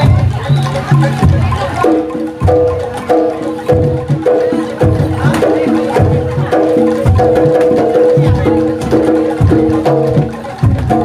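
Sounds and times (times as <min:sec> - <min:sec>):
tuned percussion notes: 0:00.0 - 0:11.0.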